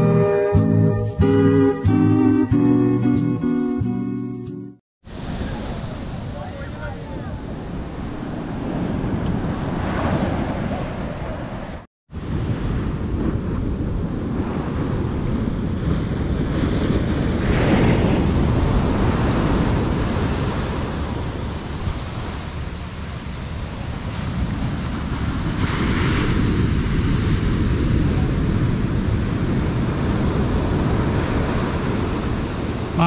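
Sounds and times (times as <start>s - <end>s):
surf breaking on beach: 5.1s - 33.0s
wind buffeting microphone: 5.1s - 33.0s.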